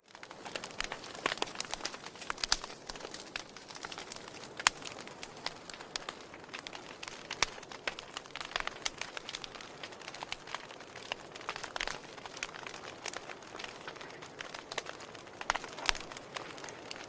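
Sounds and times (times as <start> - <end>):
wood fire crackling: 0.0 - 17.0
fire hissing: 0.2 - 17.0
sharp snap of fire: 0.4 - 17.0.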